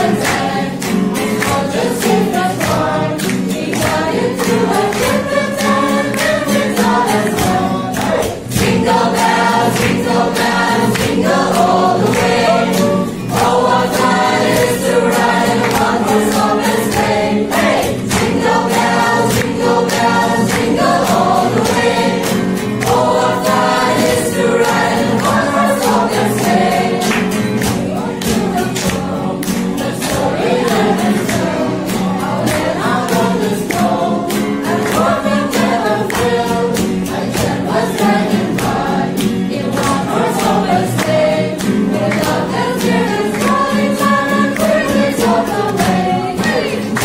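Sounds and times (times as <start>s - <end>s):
group singing together: 0.0s - 47.0s
strummed acoustic guitar: 0.0s - 47.0s.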